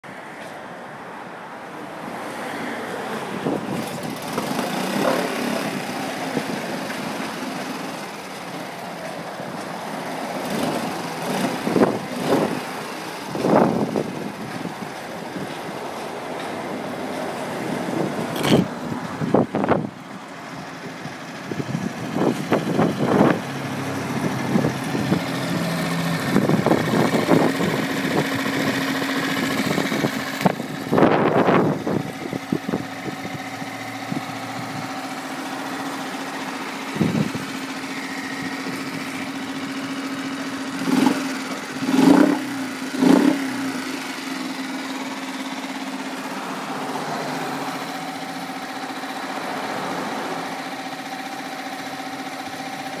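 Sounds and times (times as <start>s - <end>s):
outboard motor idling and revving: 2.1s - 53.0s.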